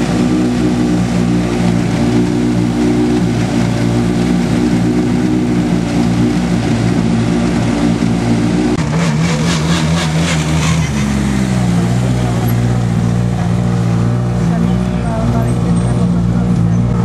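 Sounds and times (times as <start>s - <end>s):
rally car engines idling: 0.0s - 17.0s.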